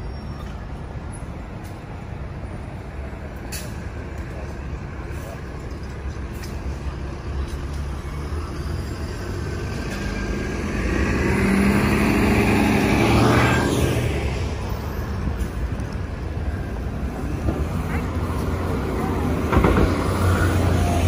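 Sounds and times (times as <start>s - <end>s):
bus engine passing by: 0.0s - 21.0s
street traffic hum: 0.0s - 21.0s.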